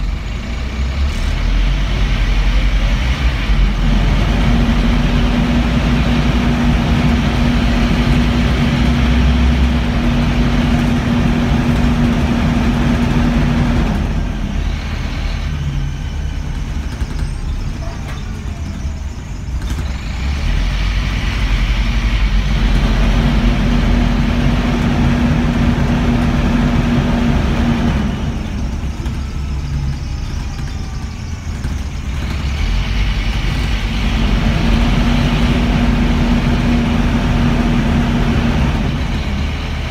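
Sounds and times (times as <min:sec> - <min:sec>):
engine cooling fan roaring: 0:00.0 - 0:39.9.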